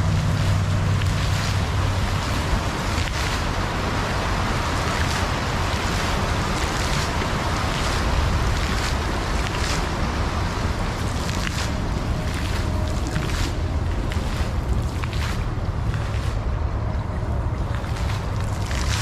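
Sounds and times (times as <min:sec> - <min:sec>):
water feature splashing: 0:00.0 - 0:19.0.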